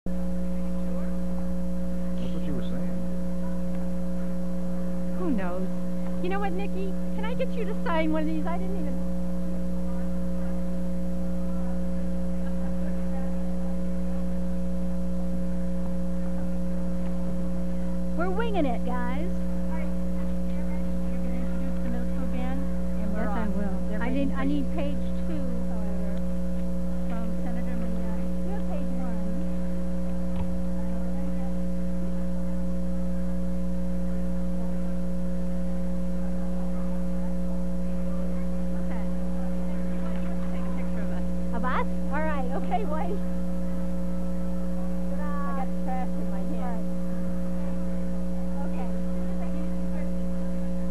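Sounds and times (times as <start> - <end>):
electrical hum with buzz: 0.1 - 50.9
faint voices: 0.1 - 50.9.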